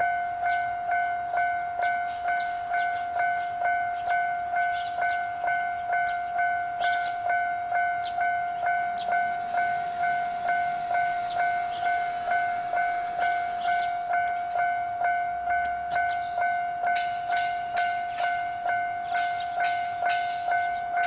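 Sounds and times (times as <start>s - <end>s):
level crossing bell ringing: 0.0s - 21.0s.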